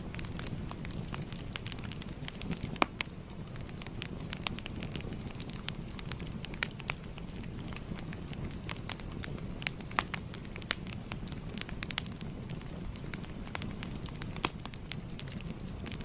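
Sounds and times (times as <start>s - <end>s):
fire crackling and popping: 0.0s - 16.0s
low rush of flames: 0.0s - 16.0s.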